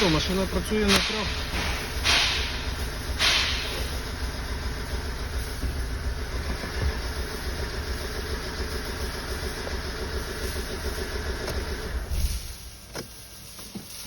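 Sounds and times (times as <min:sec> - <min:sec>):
misfiring car engine idling: 0:00.0 - 0:13.6.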